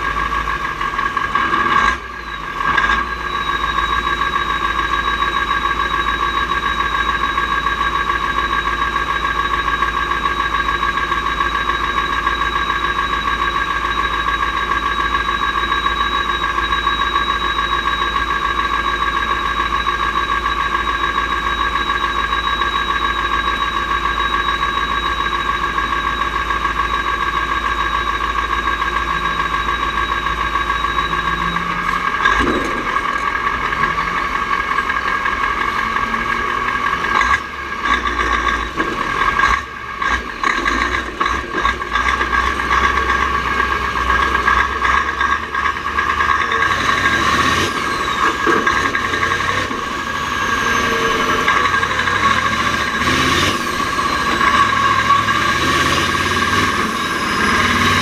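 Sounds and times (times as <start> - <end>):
constant whine: 0.0 - 58.0
diesel truck engine running: 0.0 - 58.0.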